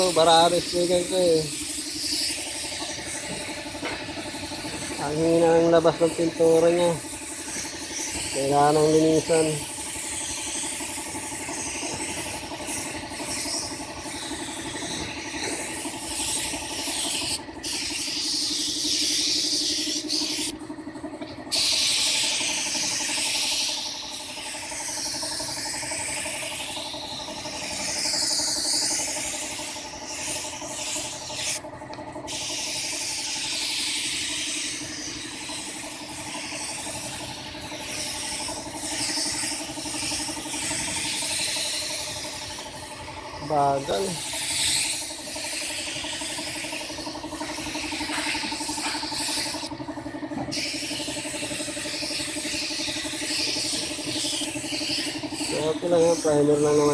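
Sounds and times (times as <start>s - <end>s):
spray gun hissing: 0.0s - 20.5s, 21.2s - 56.9s
steady hum: 0.0s - 56.9s.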